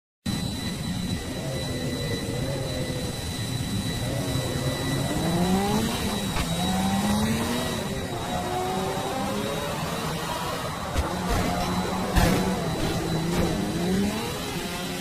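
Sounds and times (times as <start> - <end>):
faint high whine: 0.3 - 15.0
machine whirring: 0.3 - 15.0.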